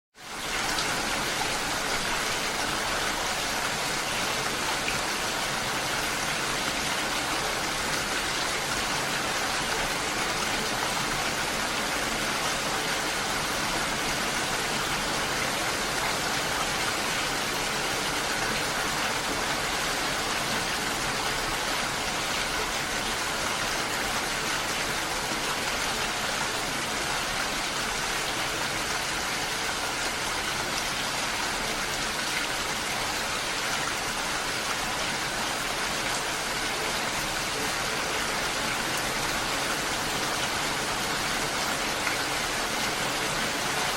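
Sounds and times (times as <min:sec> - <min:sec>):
water rushing: 0:00.2 - 0:43.9.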